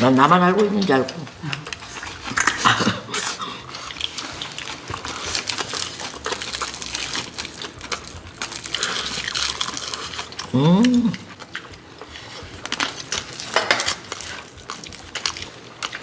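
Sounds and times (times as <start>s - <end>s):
wet chewing and sucking: 0.8s - 16.0s.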